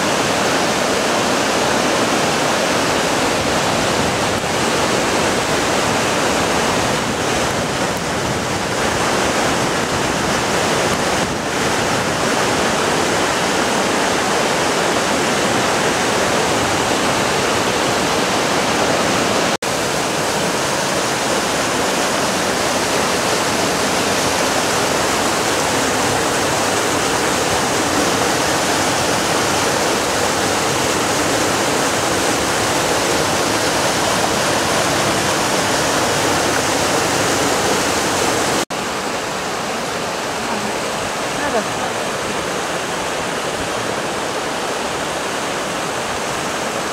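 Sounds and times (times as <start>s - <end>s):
water rushing over boulders: 0.0s - 46.9s.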